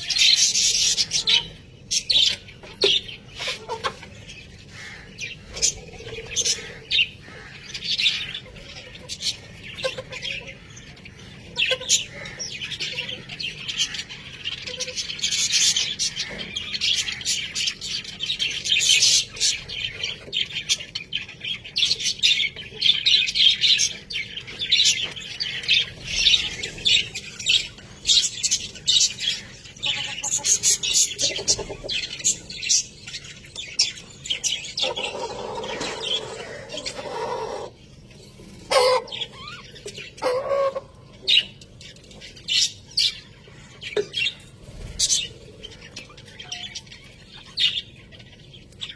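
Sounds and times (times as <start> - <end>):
budgerigars chattering and warbling: 0.0 - 48.9.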